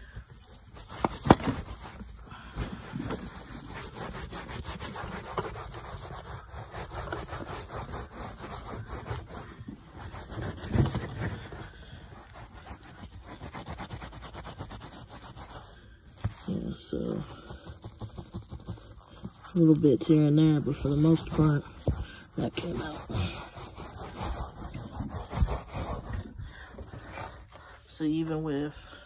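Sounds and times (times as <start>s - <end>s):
brush scrubbing carpet: 0.4s - 28.0s.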